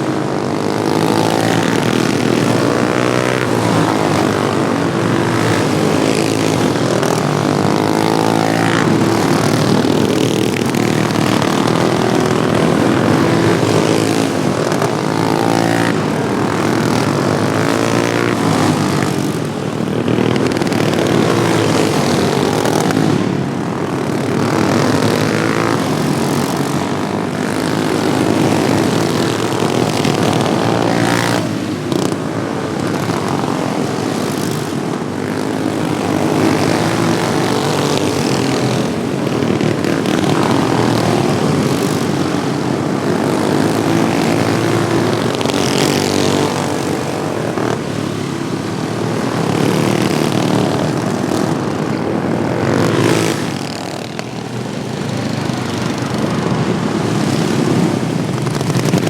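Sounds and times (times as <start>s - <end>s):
lawnmowers passing by: 0.0s - 59.0s
racing lawnmower engines: 0.0s - 59.0s.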